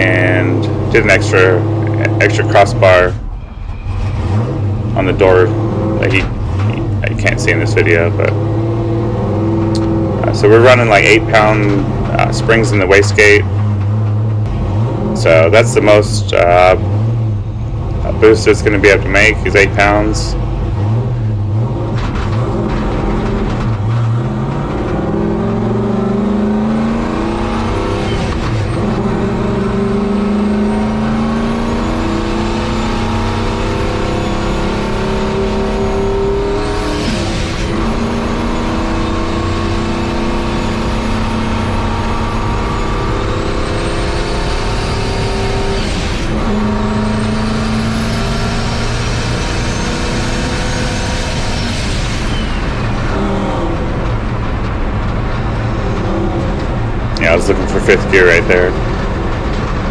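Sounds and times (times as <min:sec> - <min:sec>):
turbocharged engine under load: 0:00.0 - 0:59.9.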